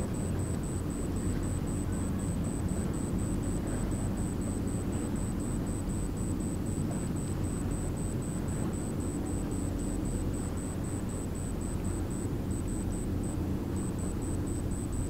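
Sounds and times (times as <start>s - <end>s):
faint high-pitched pulse: 0.0s - 15.0s.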